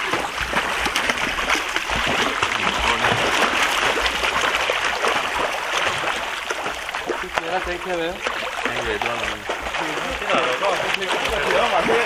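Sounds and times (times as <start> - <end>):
pool water splashing and lapping: 0.0 - 12.0.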